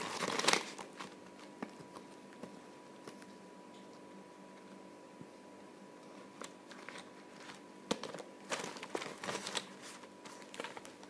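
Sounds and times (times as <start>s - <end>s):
rustling and crinkling: 0.0s - 4.8s, 6.0s - 11.0s.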